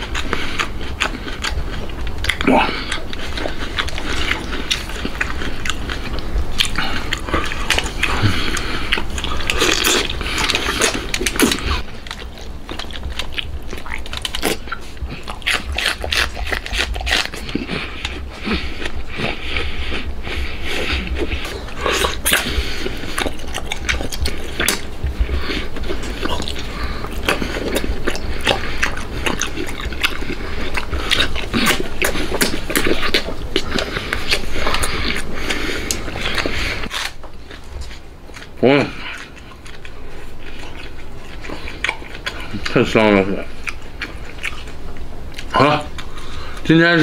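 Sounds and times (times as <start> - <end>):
mouth smacking and sucking: 0.0 - 46.7
wet chewing and biting: 0.0 - 47.0.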